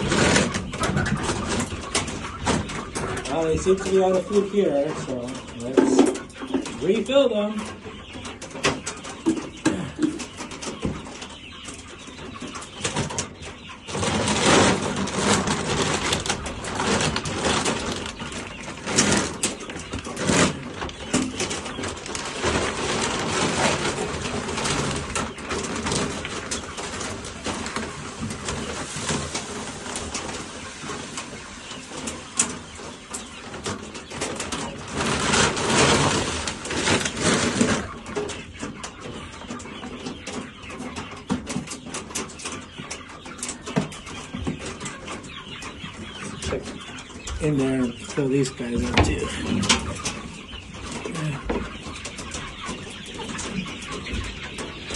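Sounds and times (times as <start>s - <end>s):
chickens clucking and cooing: 0.0s - 54.9s.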